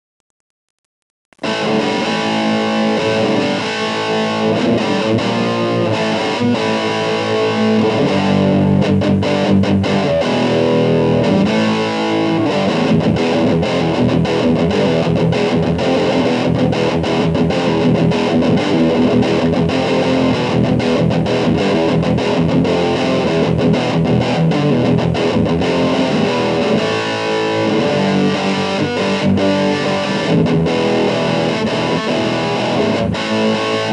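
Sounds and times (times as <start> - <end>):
distorted electric guitar: 1.3 - 33.9.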